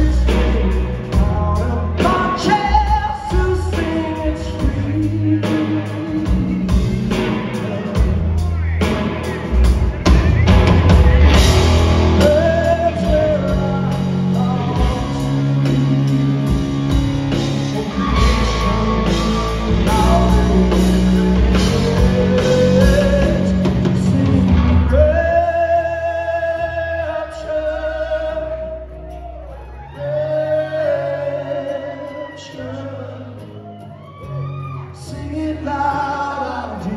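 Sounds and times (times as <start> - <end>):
man singing: 0.0 - 36.9
rock band playing live: 0.0 - 36.9.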